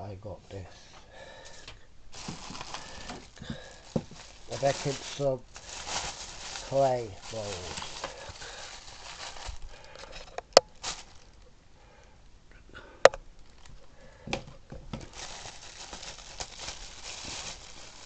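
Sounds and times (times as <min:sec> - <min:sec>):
rustling and crinkling materials: 0:01.5 - 0:11.5, 0:13.4 - 0:18.0.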